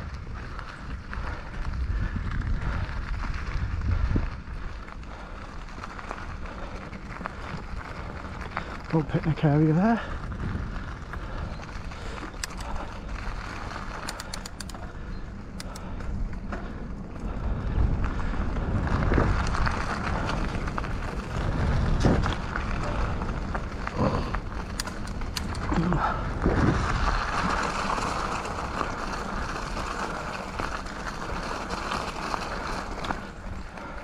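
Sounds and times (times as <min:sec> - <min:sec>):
low rumble: 0:00.0 - 0:09.0, 0:10.0 - 0:34.0
bike knocking and rattling: 0:00.0 - 0:34.0
bike tyres rolling over rough ground: 0:00.0 - 0:34.0.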